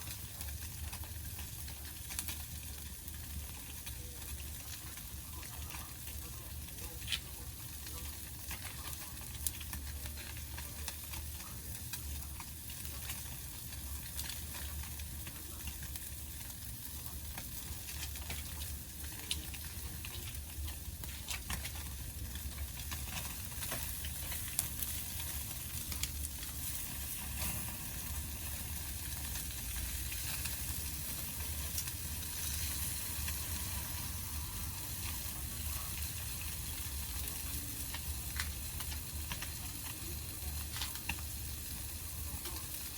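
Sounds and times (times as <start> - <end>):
fire pops and crackles: 0.0 - 42.9
fish sizzling on a grill: 0.0 - 42.9.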